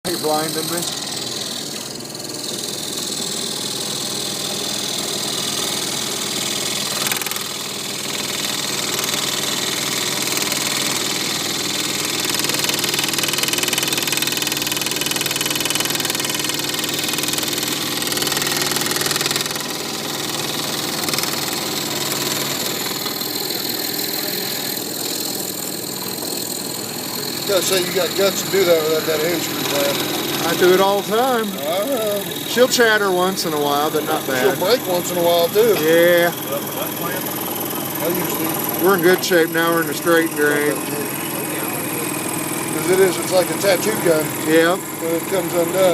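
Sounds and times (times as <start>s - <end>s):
scroll saw cutting wood: 0.0s - 45.9s.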